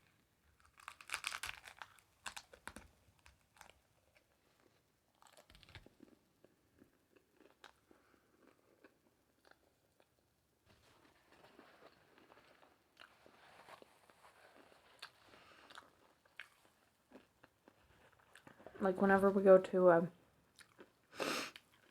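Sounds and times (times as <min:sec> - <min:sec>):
crunchy taco chewing: 0:00.0 - 0:18.8, 0:20.4 - 0:21.9.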